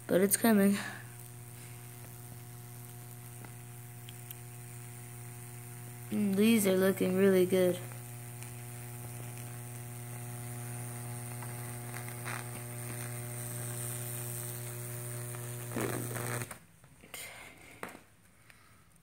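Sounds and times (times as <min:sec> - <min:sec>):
electric arcs burning wood: 0:00.0 - 0:16.7
transformer buzzing with mains hum: 0:00.0 - 0:17.0.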